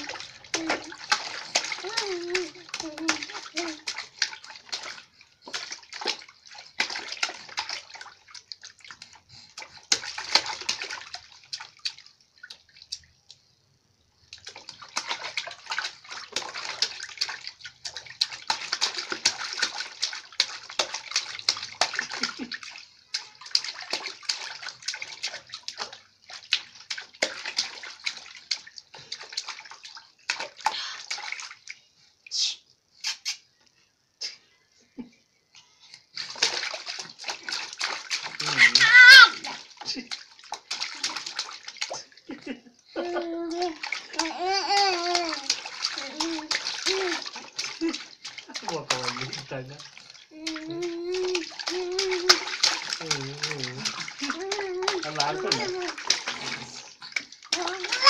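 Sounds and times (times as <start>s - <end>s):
baby splashing bathwater: 0.0s - 33.6s, 35.6s - 58.0s.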